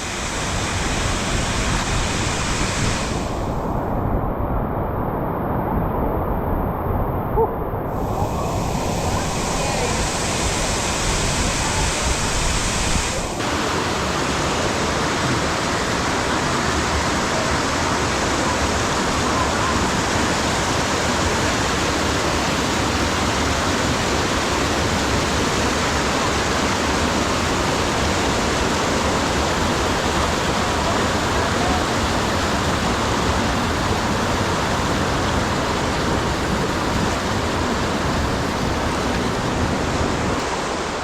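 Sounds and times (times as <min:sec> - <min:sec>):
waterfall rushing: 0:00.0 - 0:03.9, 0:07.6 - 0:41.0.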